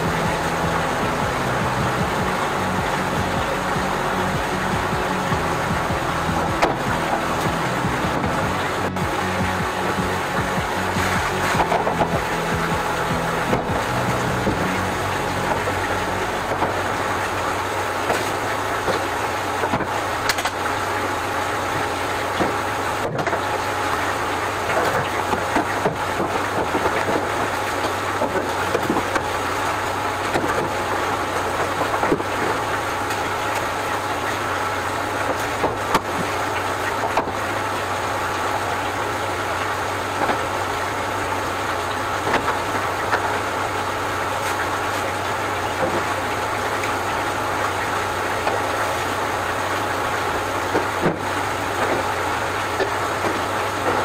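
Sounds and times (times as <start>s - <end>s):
electric motor humming: 0.0s - 54.0s.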